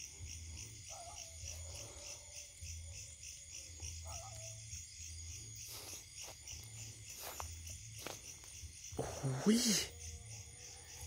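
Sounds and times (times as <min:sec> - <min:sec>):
chorus of forest insects: 0:00.0 - 0:11.0.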